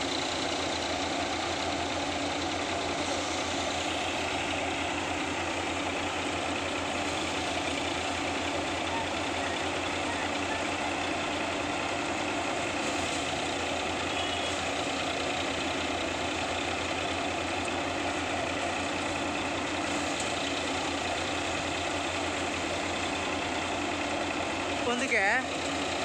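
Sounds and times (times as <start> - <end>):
thresher and diesel engine drone: 0.0 - 26.0.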